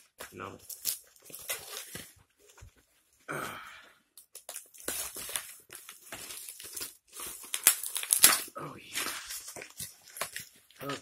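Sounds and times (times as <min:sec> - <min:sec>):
packaging rustling and tearing: 0:00.0 - 0:02.6, 0:04.3 - 0:11.0.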